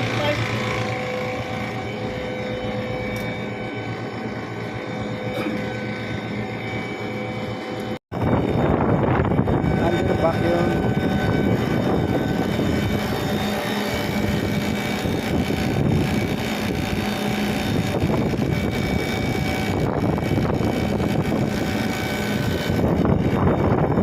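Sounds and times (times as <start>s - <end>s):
vacuum pump mechanical drone: 0.0s - 24.0s.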